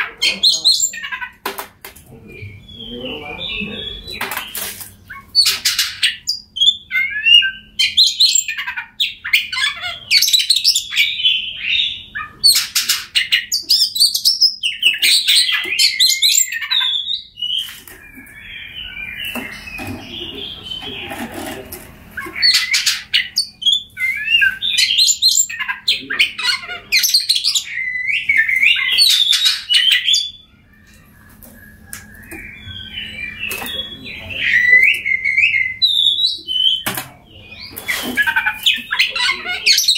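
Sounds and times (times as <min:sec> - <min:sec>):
bird singing whistles and trills: 0:02.2 - 0:21.2, 0:22.1 - 0:39.9.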